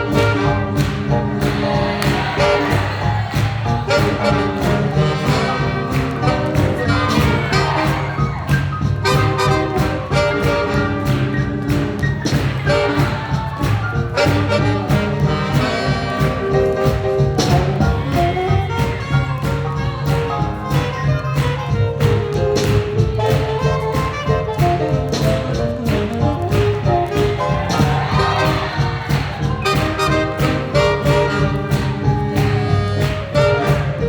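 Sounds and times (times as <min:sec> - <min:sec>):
swing jazz band playing: 0:00.0 - 0:34.0.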